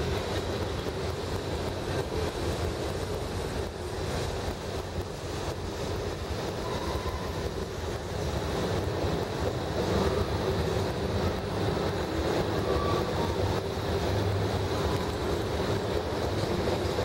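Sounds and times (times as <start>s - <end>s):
steel wheels rumbling on rail: 0.0s - 17.0s.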